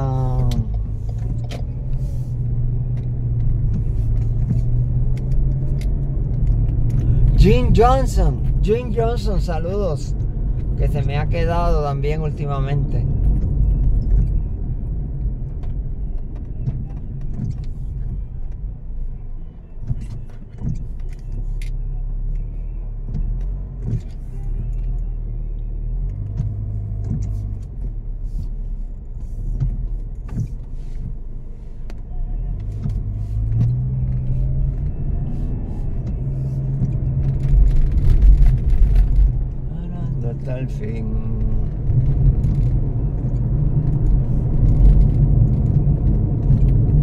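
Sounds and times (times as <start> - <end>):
vehicle engine and road rumble: 0.0 - 47.0.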